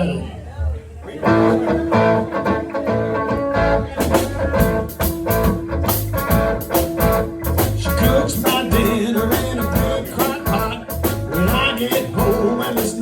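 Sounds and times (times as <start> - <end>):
blues band playing: 1.1 - 13.0.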